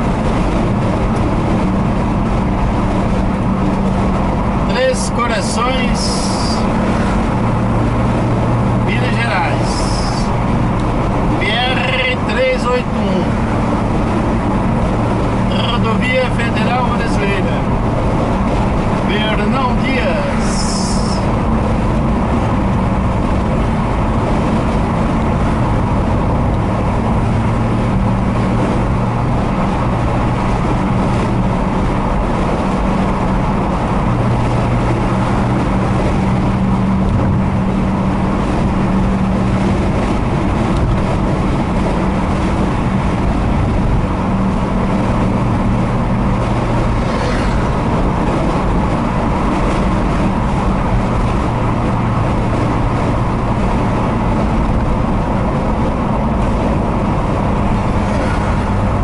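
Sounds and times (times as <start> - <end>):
car engine hum: 0.0 - 59.0
road and tyre noise: 0.0 - 59.0.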